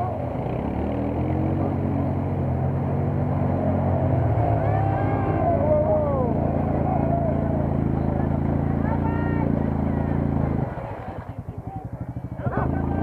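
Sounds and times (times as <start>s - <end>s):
quad bike engines running: 0.0s - 13.0s.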